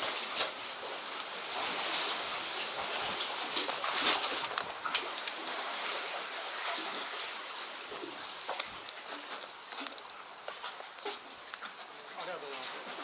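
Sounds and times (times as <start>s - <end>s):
seawater washing among blocks: 0.0s - 13.0s.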